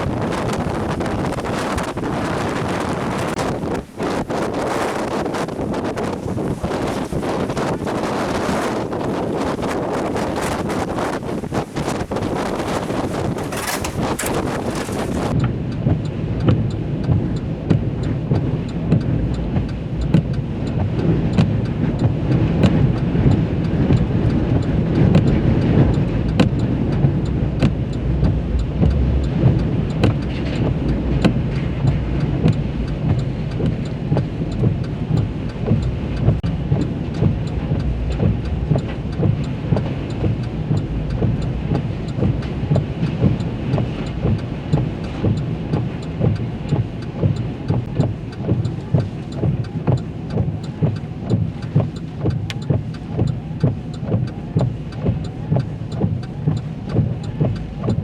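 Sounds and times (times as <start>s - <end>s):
rain: 0.0s - 58.0s
road and engine noise: 0.0s - 58.0s.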